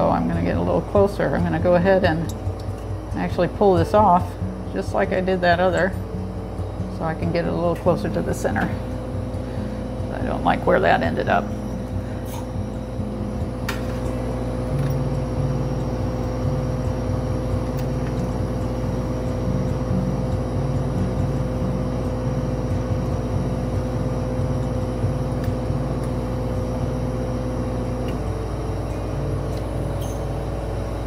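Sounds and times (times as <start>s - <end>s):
glass torch burning hum: 0.0s - 31.0s.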